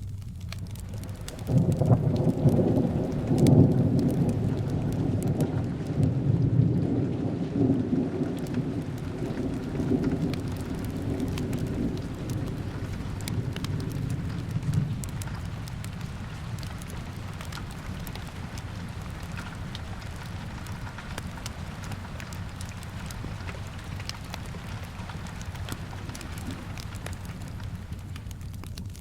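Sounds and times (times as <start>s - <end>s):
thunder rolling: 0.0s - 28.0s
steady rain: 0.0s - 29.0s
wood fire crackling: 0.0s - 29.0s.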